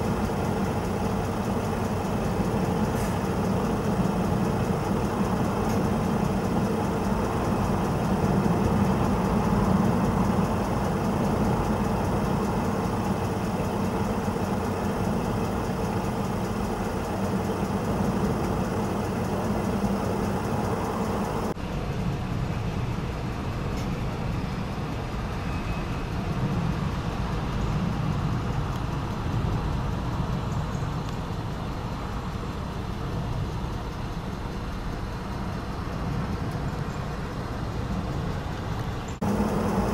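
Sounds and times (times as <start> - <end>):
engines idling: 0.0 - 39.9
high hiss: 0.0 - 39.9
road traffic rumble: 0.0 - 39.9.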